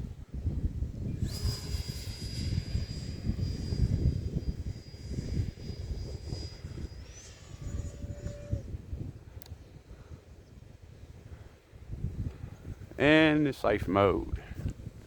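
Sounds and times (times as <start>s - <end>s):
electric ducted fan whining: 0.0s - 15.0s
wind rumble on microphone: 0.0s - 15.0s.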